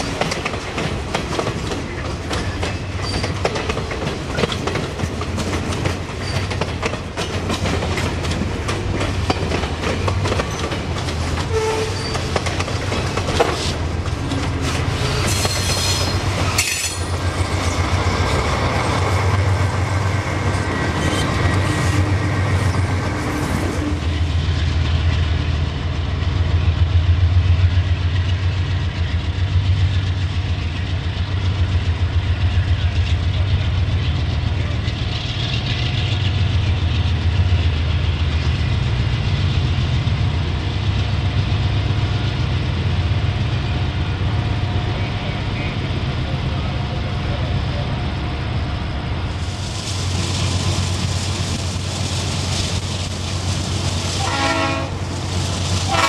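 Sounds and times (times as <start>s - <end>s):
diesel locomotive engines droning: 0.0s - 56.0s
train wheels on rails: 0.0s - 56.0s.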